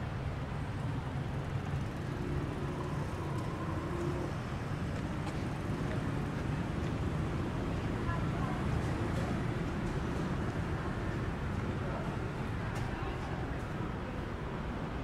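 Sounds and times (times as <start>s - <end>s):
cars and motorbikes passing: 0.0s - 15.0s.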